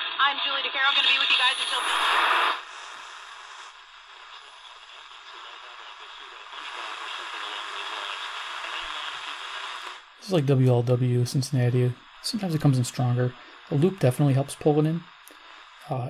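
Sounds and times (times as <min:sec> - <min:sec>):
radio static and hiss: 0:00.0 - 0:16.0
radio announcer speaking: 0:00.2 - 0:03.0, 0:04.1 - 0:09.6, 0:10.2 - 0:16.0.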